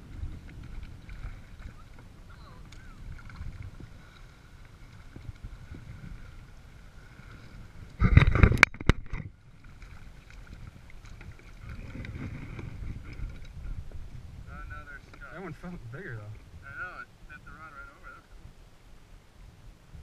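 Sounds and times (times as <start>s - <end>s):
small waves: 0.0s - 20.0s
wind: 0.0s - 20.0s.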